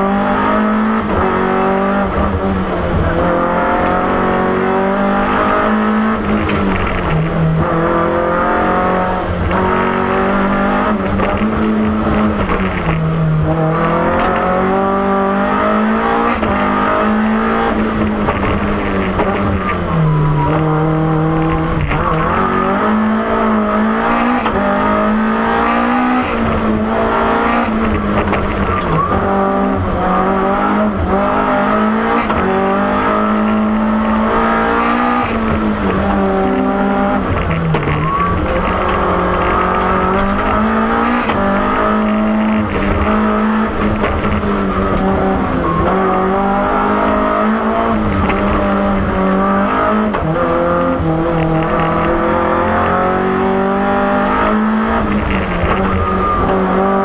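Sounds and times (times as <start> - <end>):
car engine revving from cabin: 0.0 - 57.0.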